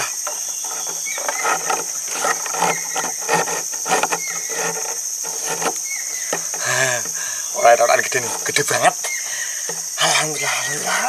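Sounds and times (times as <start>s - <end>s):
insects droning: 0.0s - 11.0s
rustles: 0.0s - 11.0s.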